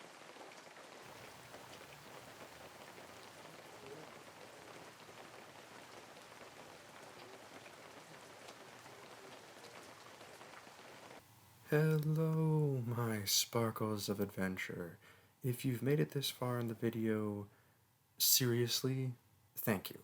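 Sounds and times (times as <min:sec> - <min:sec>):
faint steady rain: 0:00.0 - 0:20.0.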